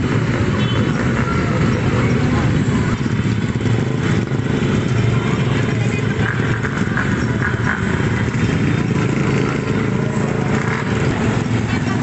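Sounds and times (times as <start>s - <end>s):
scooters and motorcycles passing: 0.0s - 12.0s.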